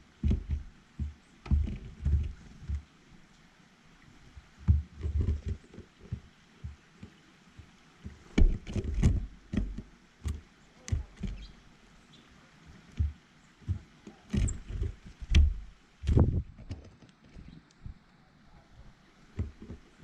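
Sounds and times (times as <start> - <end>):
birds pecking at seed feeder: 0.0 - 3.4, 4.4 - 17.9.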